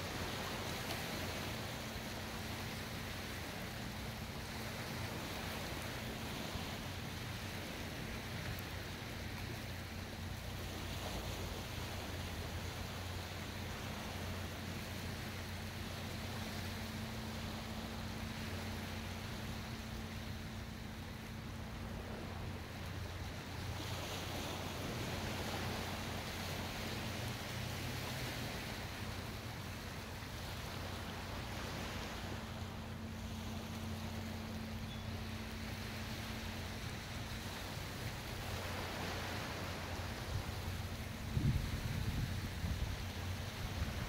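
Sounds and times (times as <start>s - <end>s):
low steady hum: 0.0s - 44.0s
sea water lapping: 0.0s - 44.0s.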